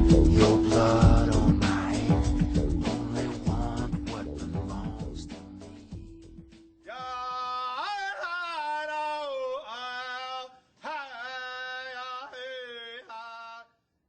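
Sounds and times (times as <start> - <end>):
person singing a chant: 0.0 - 5.4, 6.9 - 13.7.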